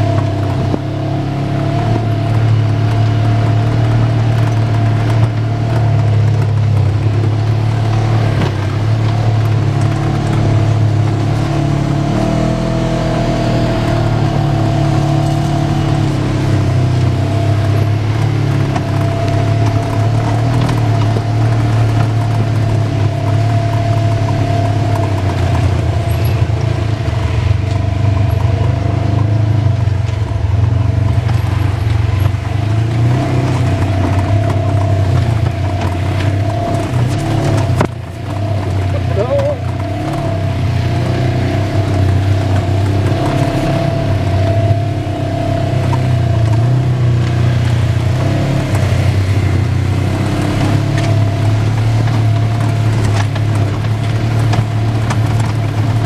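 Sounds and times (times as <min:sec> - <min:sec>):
utility vehicle engine running: 0:00.0 - 0:56.0
vehicle knocks and rattles: 0:00.0 - 0:56.0.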